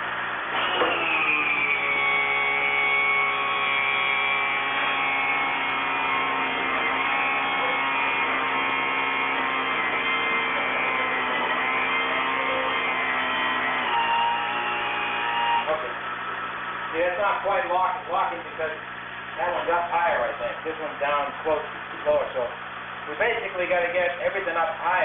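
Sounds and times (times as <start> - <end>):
motor whining steadily: 0.0 - 25.0.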